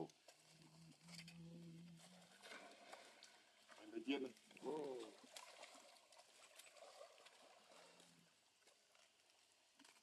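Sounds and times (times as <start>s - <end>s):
faint water sounds: 0.0s - 10.0s.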